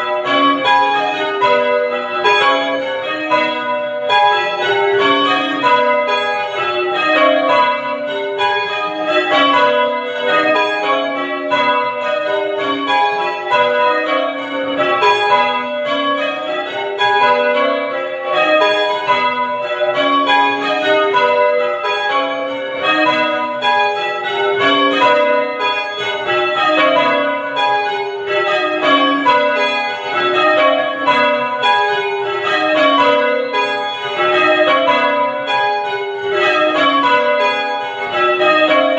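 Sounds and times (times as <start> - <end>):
church bells change-ringing: 0.0 - 38.9.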